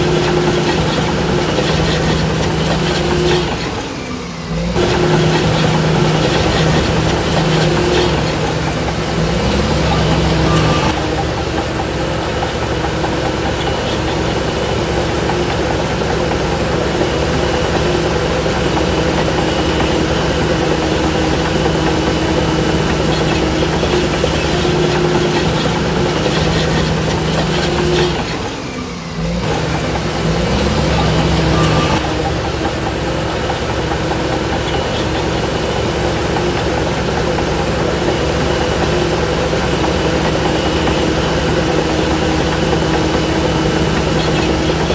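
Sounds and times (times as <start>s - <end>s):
heavy diesel engine working: 0.0s - 44.9s.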